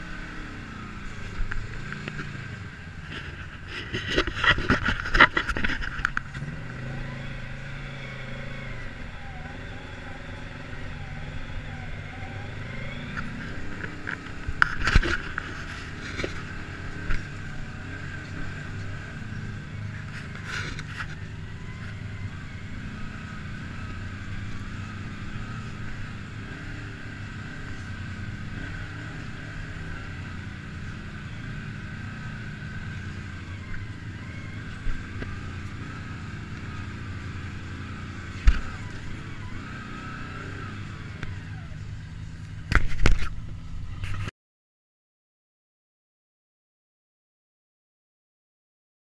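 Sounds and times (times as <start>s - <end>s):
utility vehicle engine running: 0.0s - 44.3s
wavering whine: 0.0s - 44.3s.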